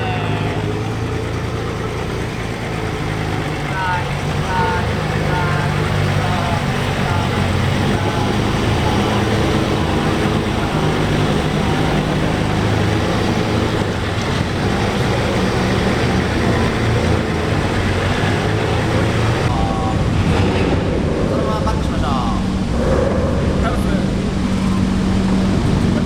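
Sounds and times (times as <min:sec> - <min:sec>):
car engine and exhaust at low revs: 0:00.0 - 0:26.0.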